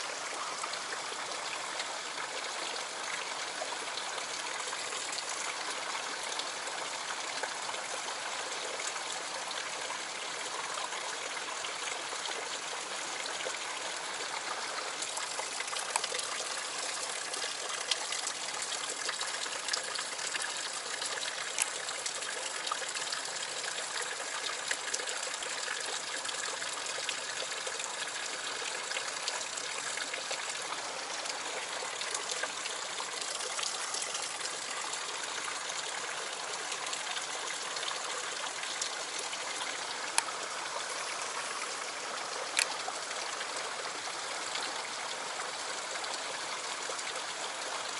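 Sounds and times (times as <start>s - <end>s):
stream water trickling over rocks: 0.0s - 47.9s.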